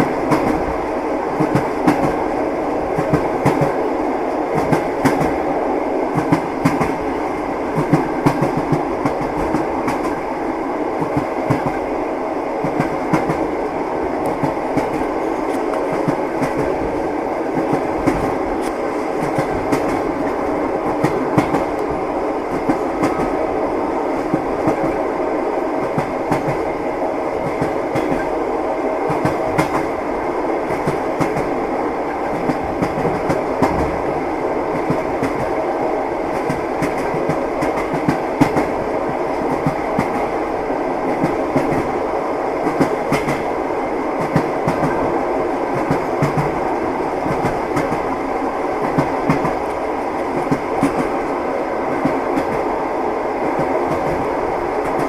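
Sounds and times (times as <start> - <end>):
train wheels clacking on rails: 0.0 - 10.3, 10.9 - 12.0, 12.6 - 52.8, 53.4 - 55.0.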